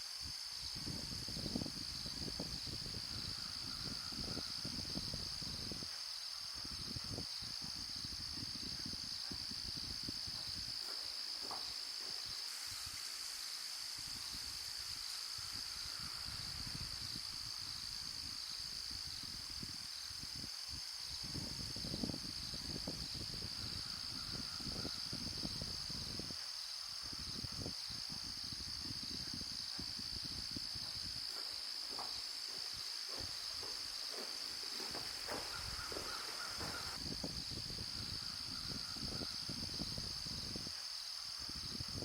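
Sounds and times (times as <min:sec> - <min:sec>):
crickets chorus: 0:00.0 - 0:42.0.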